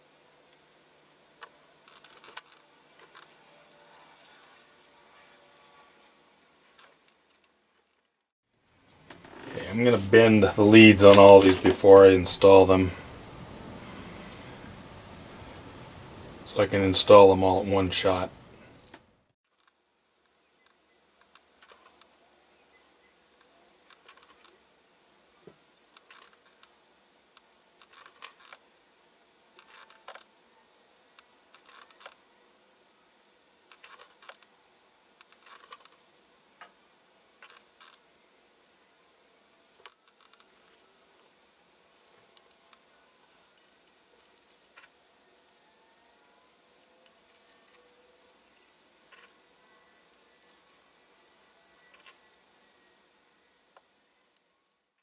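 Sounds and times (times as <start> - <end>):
room hiss: 0.0 - 5.2, 8.5 - 55.0.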